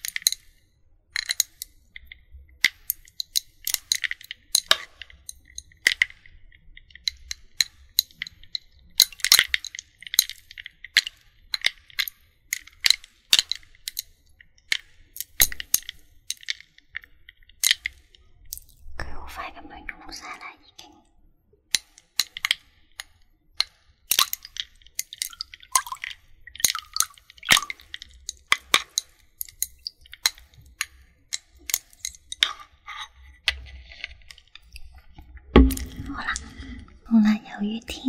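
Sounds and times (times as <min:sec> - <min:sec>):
ice cubes clinking and cracking: 0:00.0 - 0:00.6, 0:01.2 - 0:19.5, 0:21.7 - 0:38.0.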